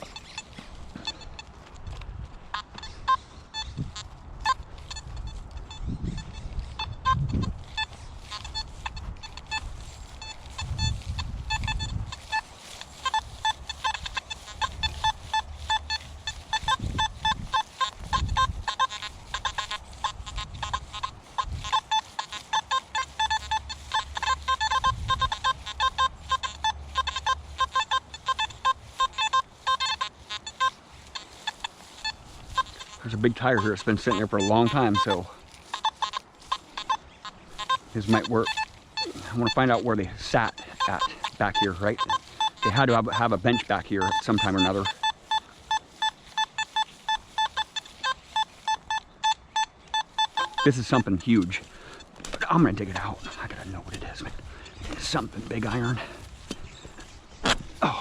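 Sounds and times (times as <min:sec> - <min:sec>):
metal detector beeps: 0:00.0 - 0:58.0.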